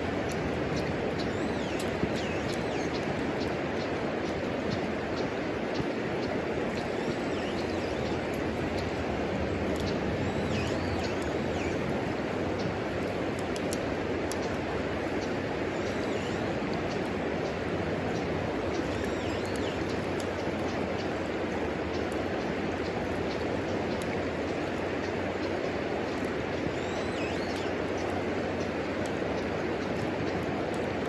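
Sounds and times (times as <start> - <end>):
wood fire crackling and popping: 0.0 - 26.4, 27.8 - 31.0.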